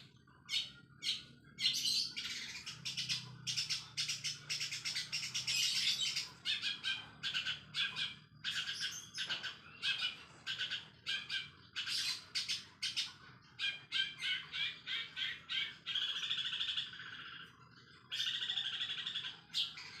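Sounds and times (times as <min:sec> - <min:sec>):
bird chirps and trills: 0:00.0 - 0:20.0.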